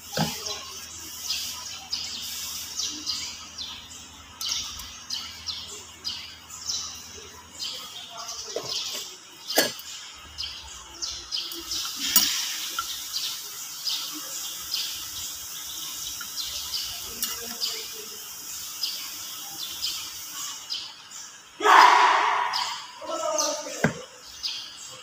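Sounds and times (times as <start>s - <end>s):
faint high chirps and ticks: 0.0s - 9.1s, 9.8s - 21.5s.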